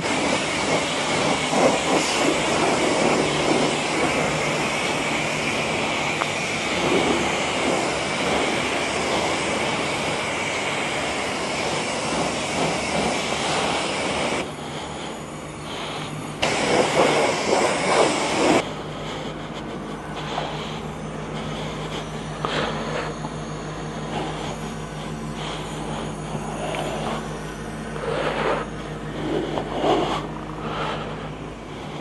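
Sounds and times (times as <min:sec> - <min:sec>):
low hum: 0:00.0 - 0:32.0
pressure washer spraying water: 0:00.0 - 0:32.0.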